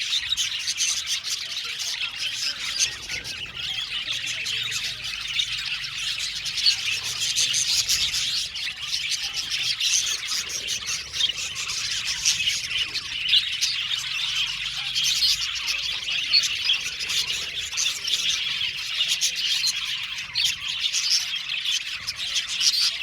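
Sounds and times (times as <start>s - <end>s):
budgerigars chirping and chattering: 0.0s - 23.0s.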